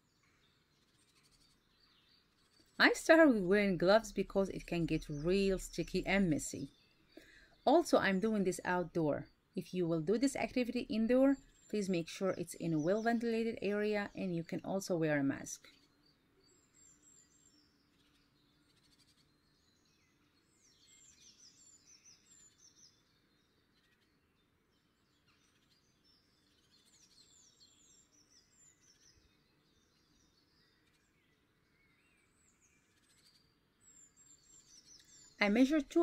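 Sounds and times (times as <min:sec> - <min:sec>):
faint outdoor ambience: 0:00.0 - 0:36.0
small birds chirping: 0:00.0 - 0:36.0.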